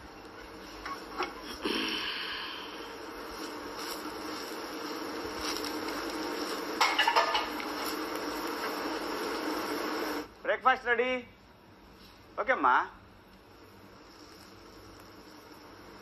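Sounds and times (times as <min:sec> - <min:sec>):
dosa sizzling on hot pan: 0:00.0 - 0:10.4, 0:13.0 - 0:16.0.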